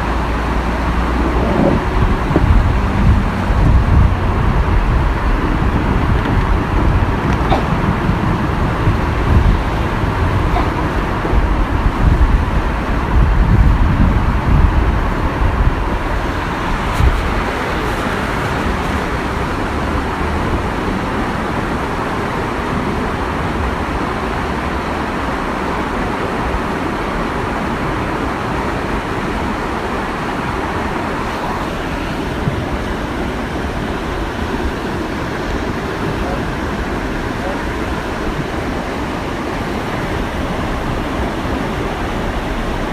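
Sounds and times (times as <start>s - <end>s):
low rumbling gusts: 0.0s - 42.9s
waterfall roaring: 0.0s - 42.9s.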